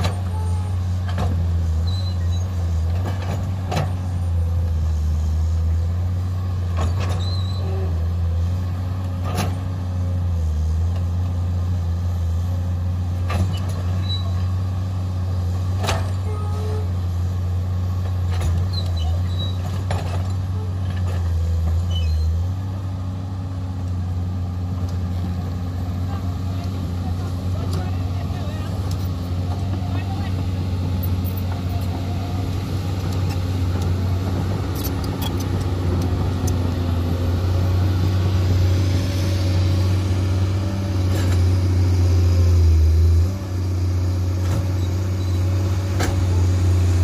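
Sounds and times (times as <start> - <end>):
excavator diesel engine droning: 0.0 - 47.0.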